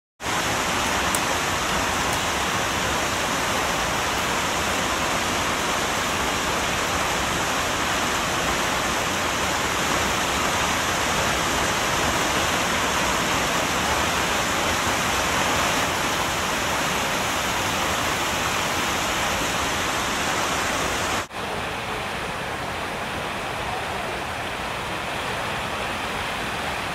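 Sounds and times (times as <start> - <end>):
steady rushing hiss: 0.2 - 26.9.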